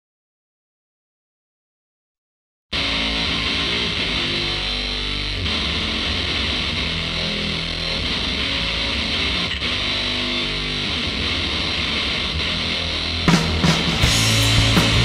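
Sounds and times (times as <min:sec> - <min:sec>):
distorted electric guitar rock music: 0:02.7 - 0:15.0.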